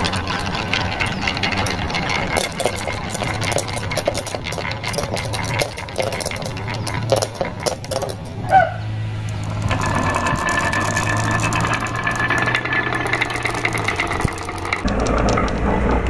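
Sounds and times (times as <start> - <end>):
marbles clacking down wooden track: 0.0 - 16.0.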